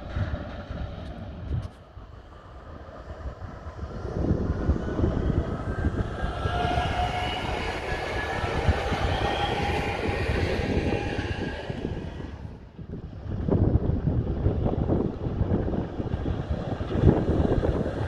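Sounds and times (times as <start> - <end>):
train wheels rumbling on rails: 0.0 - 18.0
train whine: 0.0 - 18.0.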